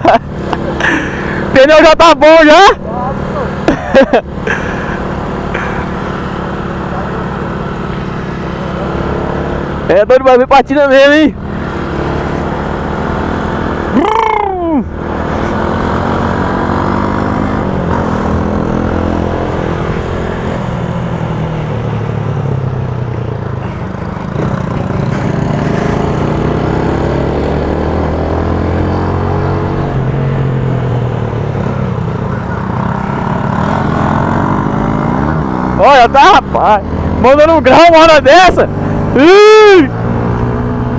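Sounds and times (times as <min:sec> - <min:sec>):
motorcycle engine running: 0:00.0 - 0:40.9
wind and wet road noise: 0:00.0 - 0:40.9.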